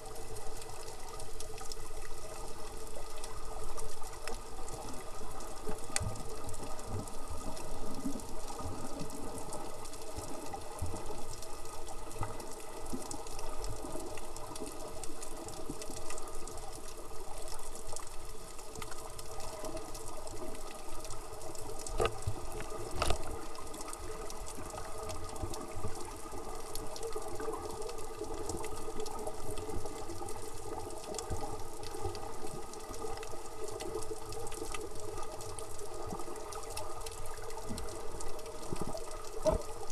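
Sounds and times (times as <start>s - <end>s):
underwater rushing water: 0.0s - 39.9s.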